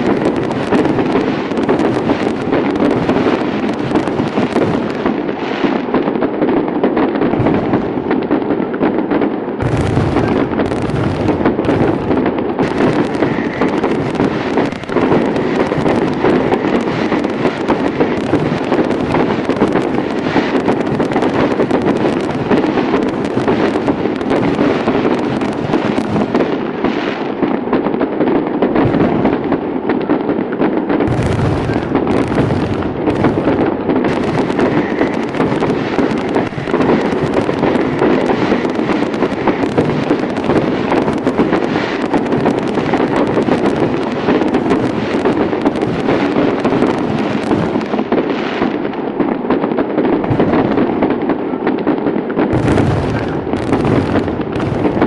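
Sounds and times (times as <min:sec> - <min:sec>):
fireworks bangs and crackles: 0:00.0 - 0:55.0
low fireworks booms: 0:00.0 - 0:55.0.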